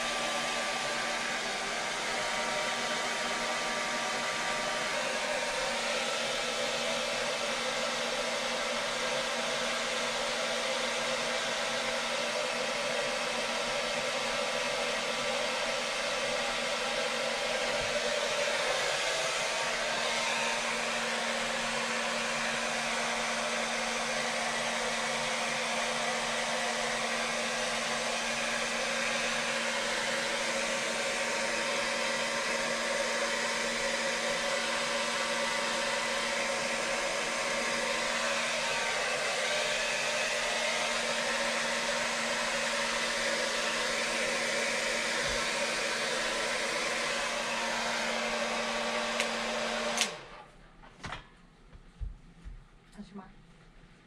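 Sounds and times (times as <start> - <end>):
hair dryer running: 0.0 - 51.3.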